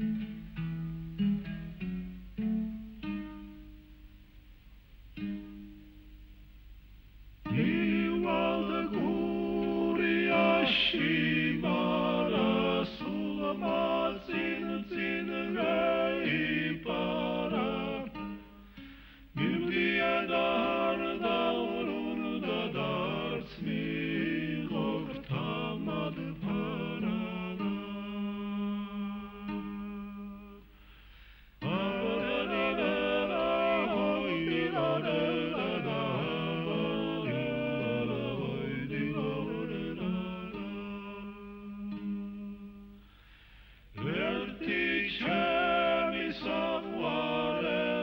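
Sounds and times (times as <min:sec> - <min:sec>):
voices singing in harmony: 0:07.4 - 0:30.9, 0:31.5 - 0:48.0.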